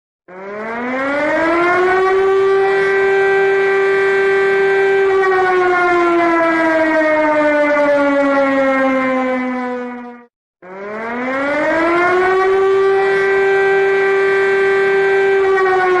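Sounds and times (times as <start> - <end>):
emergency siren wailing: 0.3 - 16.0.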